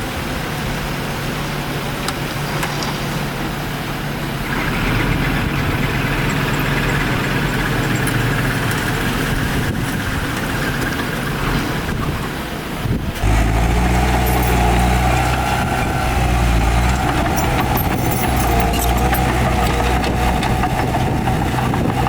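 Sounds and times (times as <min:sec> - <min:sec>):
heavy diesel engine running: 0:04.0 - 0:22.0.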